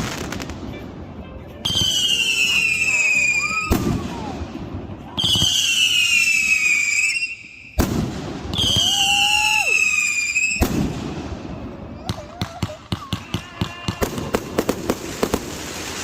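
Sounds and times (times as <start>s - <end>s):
fireworks bangs: 0.0s - 0.8s, 1.6s - 16.0s
fireworks whistling: 0.0s - 0.8s, 1.6s - 4.5s, 5.2s - 11.5s, 13.0s - 16.0s.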